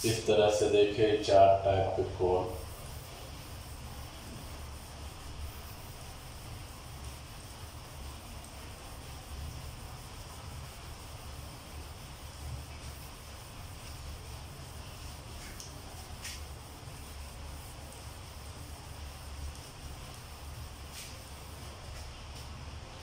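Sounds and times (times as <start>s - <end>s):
low room hum with hiss: 0.0s - 23.0s.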